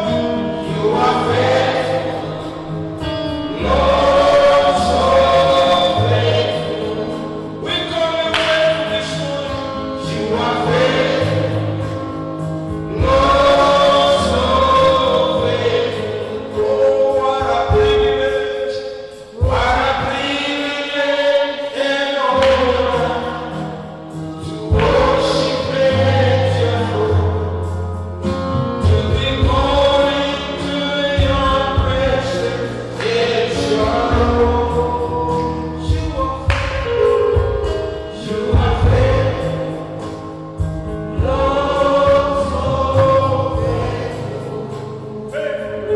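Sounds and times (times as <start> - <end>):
steady bass line: 0.0 - 18.4, 22.3 - 45.9
gospel choir singing: 0.0 - 45.9.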